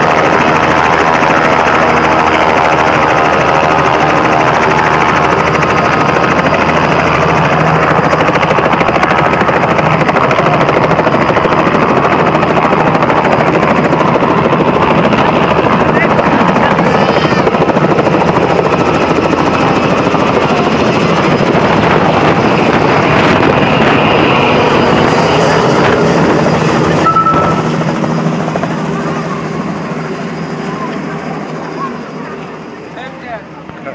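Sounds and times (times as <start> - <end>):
helicopter running: 0.0 - 33.9.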